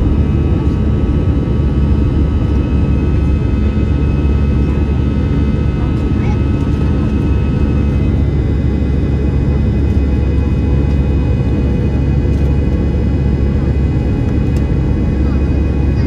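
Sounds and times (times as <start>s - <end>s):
engine whine: 0.0s - 16.0s
jet engines rumbling in cabin: 0.0s - 16.0s.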